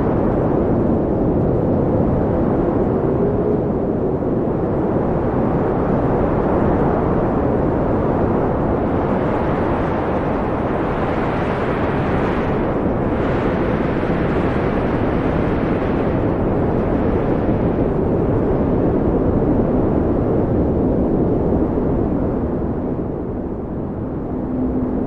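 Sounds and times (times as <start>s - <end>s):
wind blowing: 0.0s - 25.0s.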